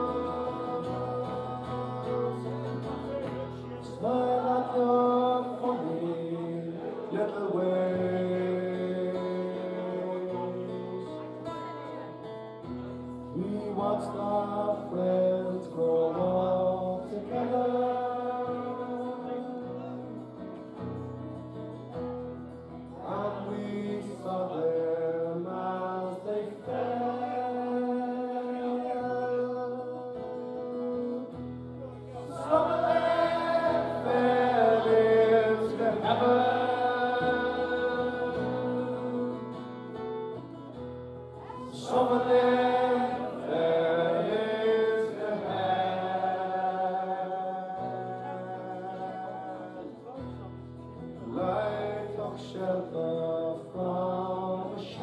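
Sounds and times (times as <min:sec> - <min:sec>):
man singing through pa: 0:00.0 - 0:03.0, 0:03.8 - 0:12.0, 0:13.2 - 0:20.2, 0:23.0 - 0:31.5, 0:32.1 - 0:40.0, 0:41.4 - 0:50.1, 0:51.2 - 0:55.0
strummed acoustic guitar: 0:00.0 - 0:55.0.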